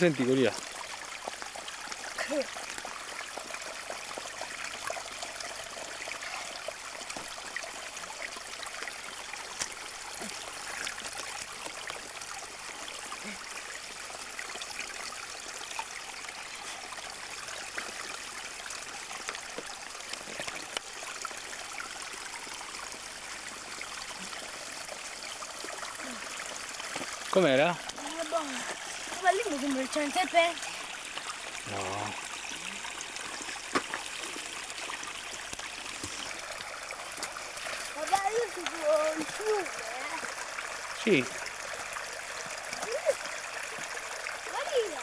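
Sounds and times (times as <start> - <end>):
stream trickling over stones: 0.0 - 45.0.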